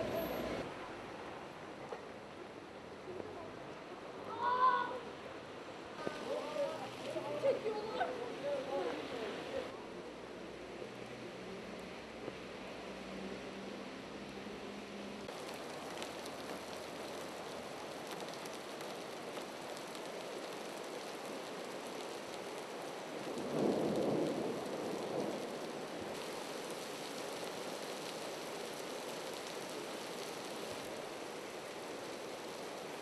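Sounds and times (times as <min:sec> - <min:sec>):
heavy rain on pavement and cars: 0:00.0 - 0:33.0.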